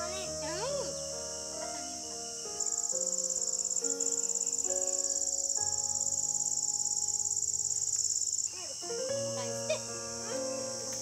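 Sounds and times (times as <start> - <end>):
insects trilling: 0.0 - 11.0
soft background music chords: 0.0 - 11.0.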